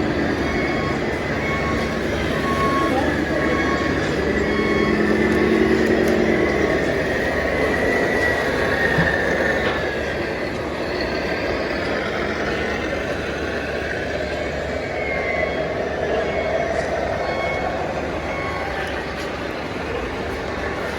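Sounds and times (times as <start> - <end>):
small electric motors whirring: 0.0 - 20.9
thin motor whine: 0.0 - 20.9.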